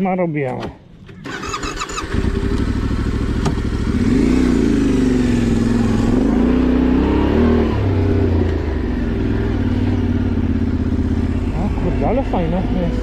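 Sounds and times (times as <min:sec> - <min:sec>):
motorcycle engine revving: 0:01.0 - 0:13.0.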